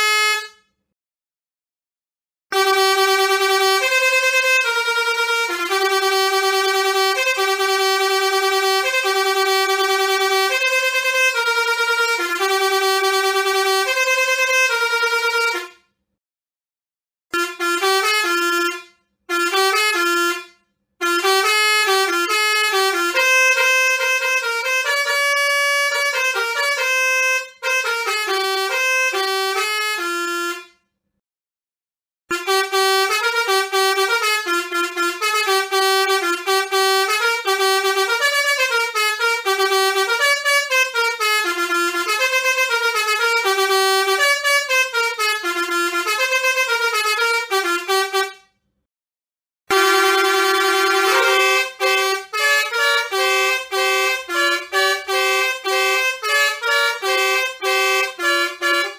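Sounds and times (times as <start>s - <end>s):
bus musical horn: 0.0s - 0.8s, 2.5s - 15.9s, 17.3s - 30.8s, 32.3s - 48.6s, 49.7s - 58.9s.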